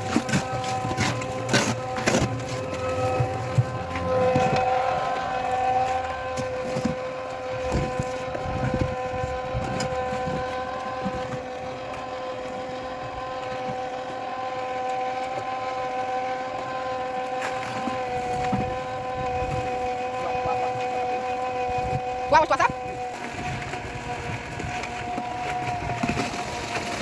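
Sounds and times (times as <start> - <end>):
machine motor whining: 0.0 - 27.0.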